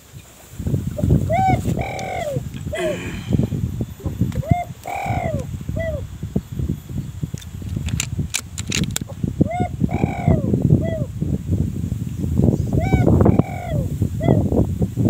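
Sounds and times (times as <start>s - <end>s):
wind buffeting microphone: 0.0s - 15.0s
bird calling: 0.9s - 11.2s, 12.7s - 14.5s.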